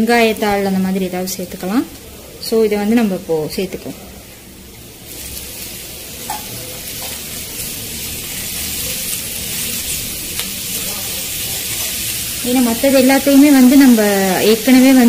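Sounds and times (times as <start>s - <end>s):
leeks sizzling in hot oil: 0.0s - 15.0s.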